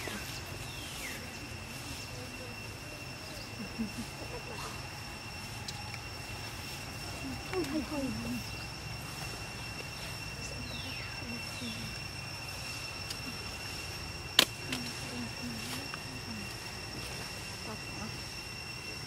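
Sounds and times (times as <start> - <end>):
high-pitched two-tone drone: 0.0 - 19.0.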